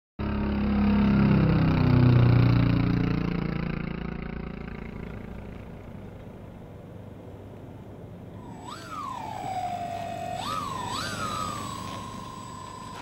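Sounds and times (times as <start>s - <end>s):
engine drone passing by: 0.2s - 13.0s.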